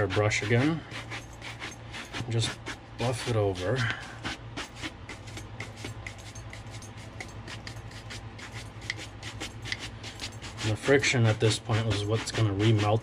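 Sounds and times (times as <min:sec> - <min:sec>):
shoe brush swishing: 0:00.0 - 0:13.0
steady low hum: 0:00.0 - 0:13.0.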